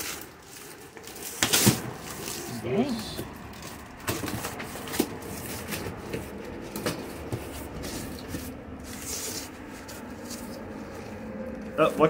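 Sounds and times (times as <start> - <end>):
cardboard rustling and scraping: 0.0 - 12.0.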